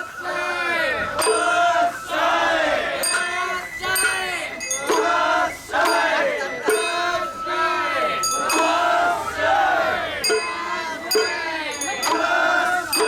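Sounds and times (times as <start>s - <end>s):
group chanting rhythmic calls: 0.0s - 13.0s
small bells ringing: 0.0s - 13.0s.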